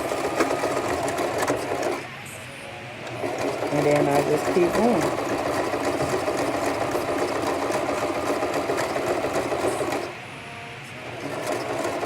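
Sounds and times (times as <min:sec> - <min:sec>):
sewing machine running fast: 0:00.0 - 0:02.2, 0:03.0 - 0:10.2, 0:11.0 - 0:12.0.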